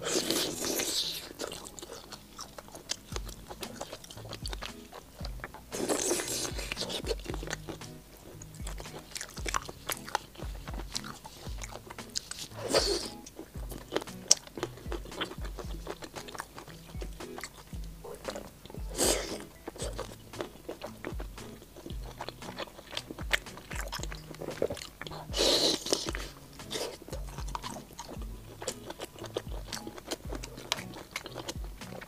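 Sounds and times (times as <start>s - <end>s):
background music with low beat: 0.0s - 32.0s
crunchy chewing: 0.0s - 32.0s
wet mouth sounds: 0.0s - 32.0s.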